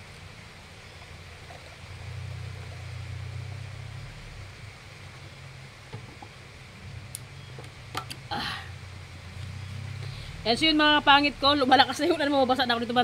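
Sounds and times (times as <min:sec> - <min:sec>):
low motor drone: 0:00.0 - 0:13.0
steady rain hiss: 0:00.0 - 0:13.0.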